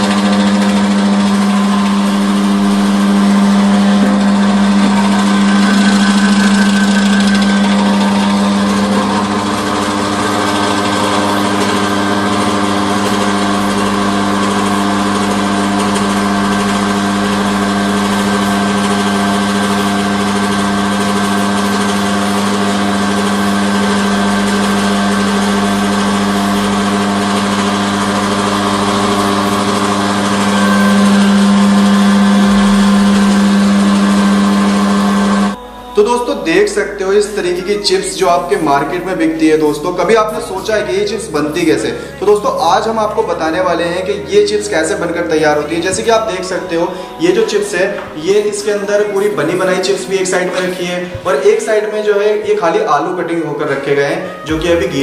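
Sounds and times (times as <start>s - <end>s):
electric slicer motor humming: 0.0s - 55.0s.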